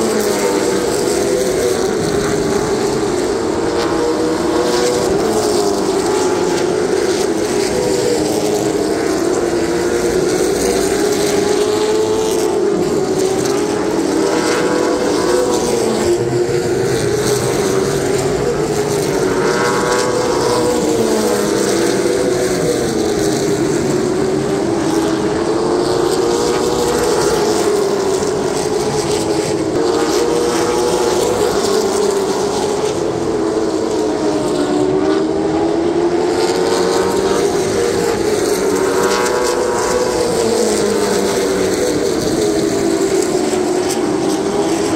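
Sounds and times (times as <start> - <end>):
race car engines droning: 0.0 - 44.9.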